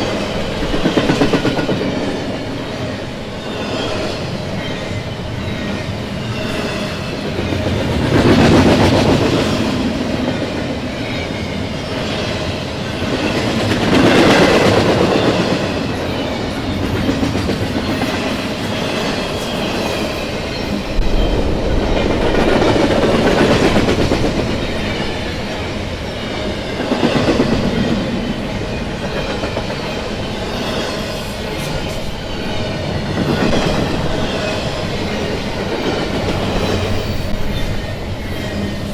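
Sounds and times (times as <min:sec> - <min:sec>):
freight train cars rolling past: 0:00.0 - 0:38.9.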